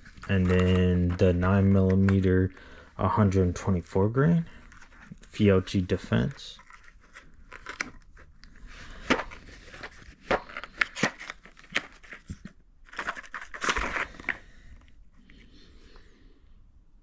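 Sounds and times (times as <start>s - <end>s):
packaging crinkling and rustling: 0.0s - 3.6s, 4.2s - 15.4s.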